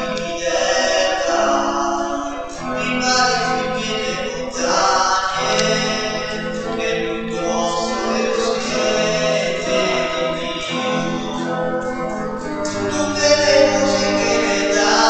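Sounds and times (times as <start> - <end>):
acoustic guitar: 0.0 - 15.0
voices singing a hymn: 0.0 - 15.0.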